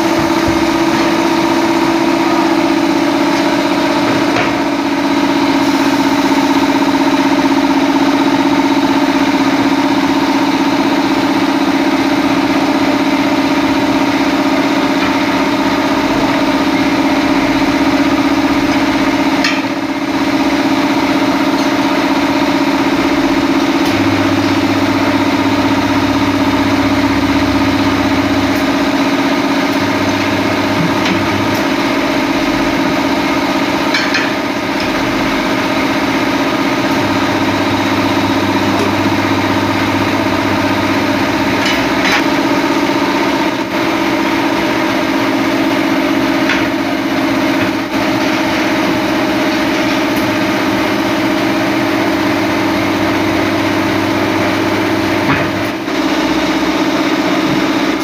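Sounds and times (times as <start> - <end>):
steady machine drone: 0.0 - 58.0
turntable motor hum: 0.0 - 58.0.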